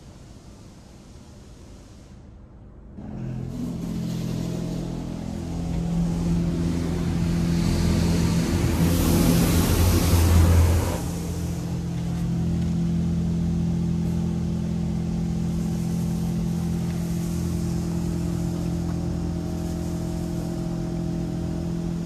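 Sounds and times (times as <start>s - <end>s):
car wash equipment humming: 0.0s - 22.0s.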